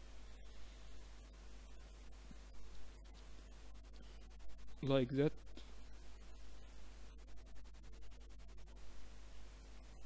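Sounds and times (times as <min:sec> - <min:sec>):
faint background hiss: 0:00.0 - 0:10.0
low mains hum: 0:00.0 - 0:10.0.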